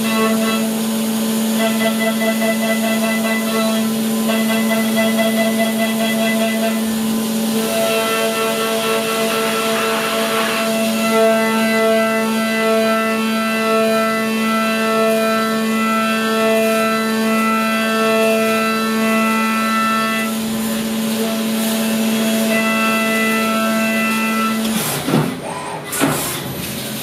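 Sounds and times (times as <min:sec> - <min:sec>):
milling spindle whine: 0:00.0 - 0:24.6.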